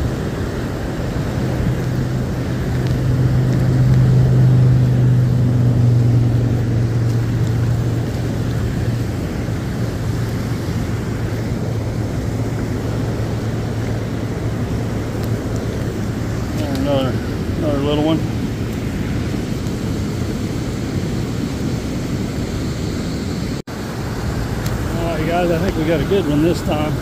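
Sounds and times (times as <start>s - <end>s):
low steady hum: 0.0s - 23.0s
river water rushing: 0.0s - 27.0s.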